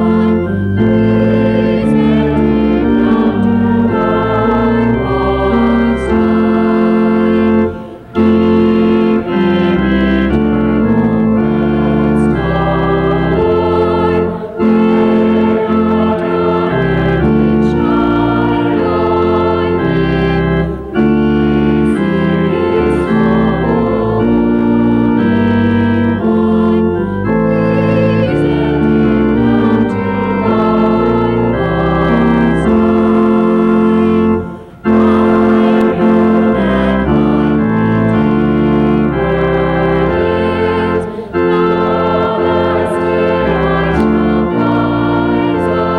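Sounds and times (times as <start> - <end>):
church organ chords: 0.0 - 45.9.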